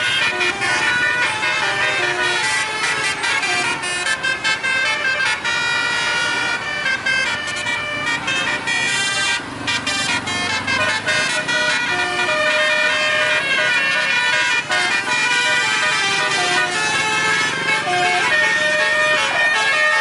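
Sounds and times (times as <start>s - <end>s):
bus horns playing musical notes: 0.0s - 20.0s
passing traffic: 0.0s - 20.0s.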